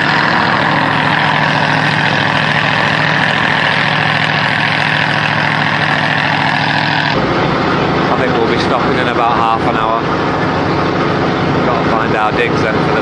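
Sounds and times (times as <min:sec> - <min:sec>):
boat engine running: 0:00.0 - 0:13.0
high whine: 0:00.0 - 0:13.0.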